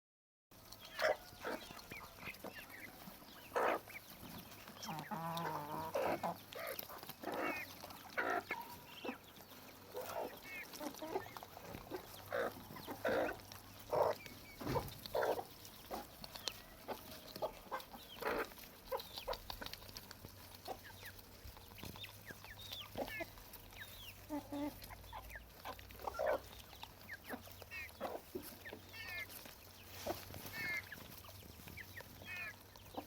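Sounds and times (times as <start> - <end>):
chickens clucking: 0.6 - 33.0.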